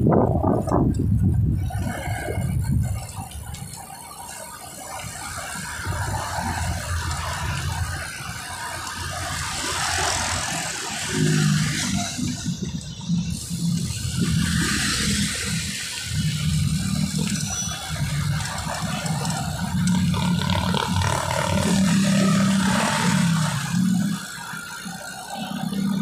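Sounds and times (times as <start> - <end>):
wind rumble on microphone: 0.0 - 24.2
vehicle engines running: 0.0 - 26.0.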